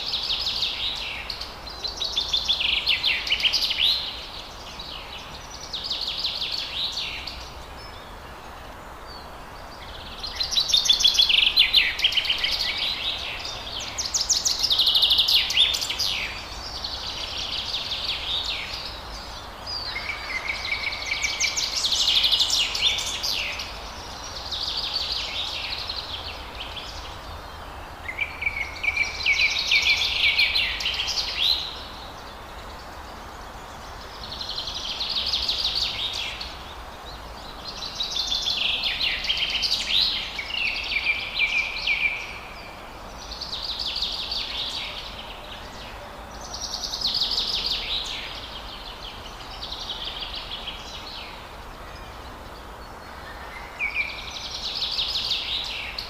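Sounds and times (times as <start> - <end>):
faint background hiss: 0.0 - 56.0.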